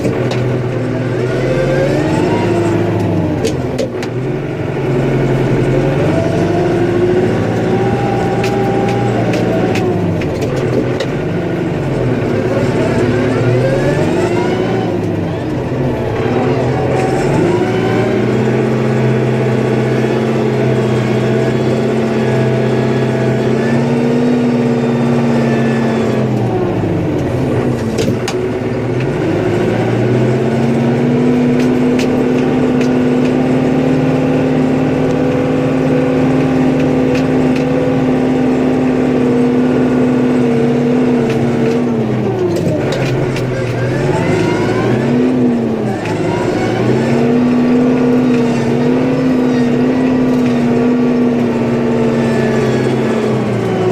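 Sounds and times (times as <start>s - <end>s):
snowplow engine revving: 0.0s - 53.9s.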